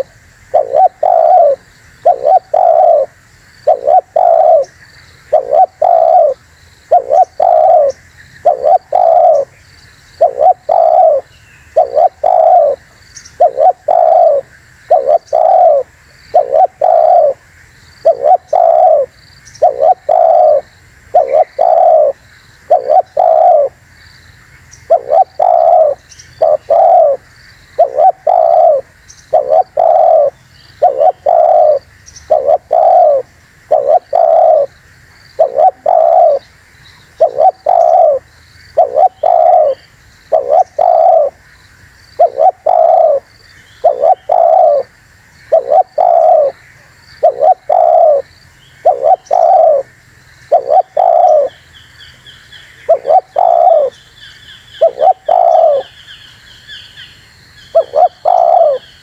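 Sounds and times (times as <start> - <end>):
dove cooing: 0.0 - 9.6, 10.2 - 23.8, 24.8 - 36.4, 37.1 - 41.4, 42.2 - 49.9, 50.5 - 51.6, 52.7 - 54.1, 54.8 - 56.2, 57.7 - 59.0
small birds chirping: 0.0 - 59.0.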